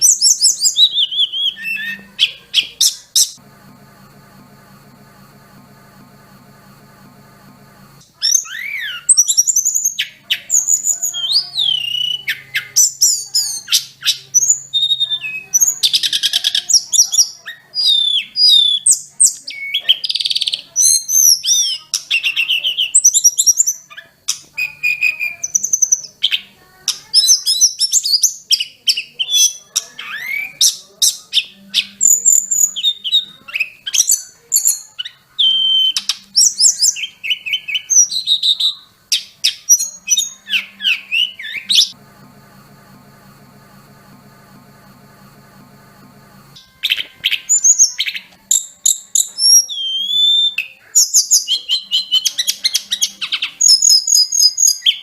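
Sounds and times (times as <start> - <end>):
songbird singing: 0.0 - 3.4, 8.0 - 42.0, 46.6 - 55.0.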